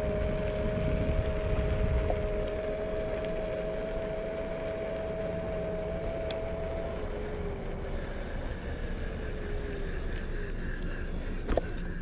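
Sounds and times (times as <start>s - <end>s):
wind rush on microphone: 0.0s - 10.4s
electric scooter motor whining: 0.0s - 12.0s.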